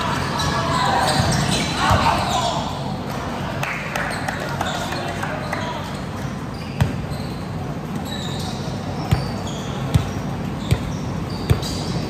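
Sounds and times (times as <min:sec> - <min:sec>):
sneaker squeaks on gym floor: 0:00.1 - 0:02.7, 0:04.1 - 0:12.0.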